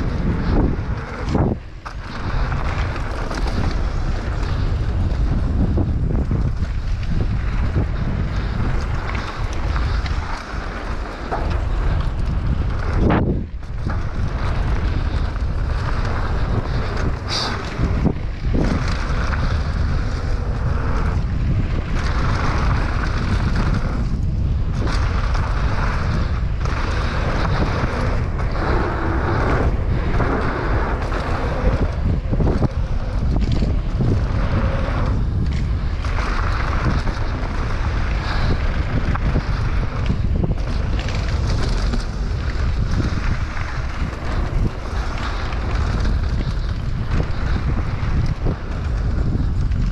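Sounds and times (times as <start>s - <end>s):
bike rattling: 0.0s - 49.9s
tyres rumbling on dirt trail: 0.0s - 49.9s
wind buffeting microphone: 0.0s - 49.9s.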